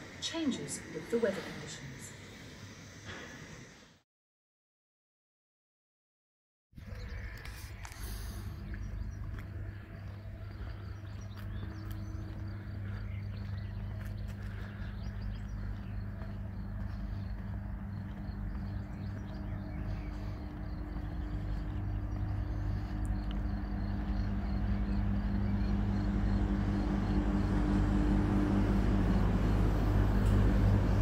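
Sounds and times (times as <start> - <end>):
power plant low hum: 0.0 - 3.8, 6.8 - 31.0.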